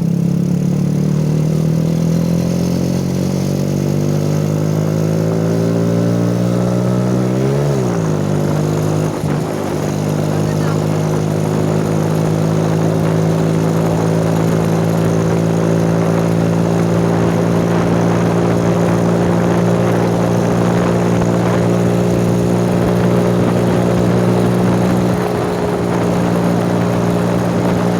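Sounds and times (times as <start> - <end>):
go-kart engine running: 0.0 - 27.9.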